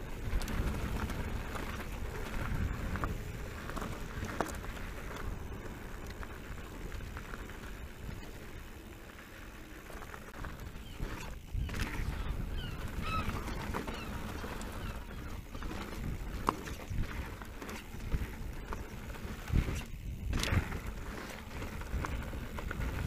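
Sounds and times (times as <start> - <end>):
bike knocks and rattles: 0.0 - 8.6, 9.8 - 23.0
tyres crunching over loose stones: 0.0 - 23.0
wind rumbling on microphone: 0.0 - 23.0.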